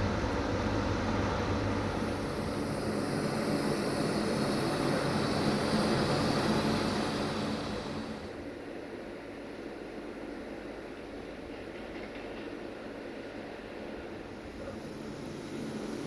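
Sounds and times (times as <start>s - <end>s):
train rumbling on tracks: 0.0s - 16.0s.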